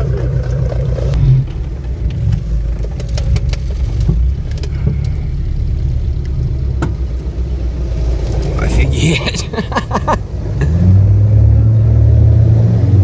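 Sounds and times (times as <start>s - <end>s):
off-road vehicle engine rumble: 0.0s - 13.0s.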